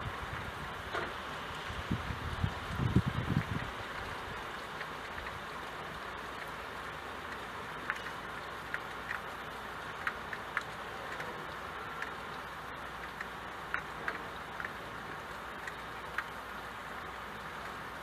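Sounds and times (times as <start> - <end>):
raindrops ticking on glass window: 0.0 - 18.0
steady rain hiss: 0.0 - 18.0.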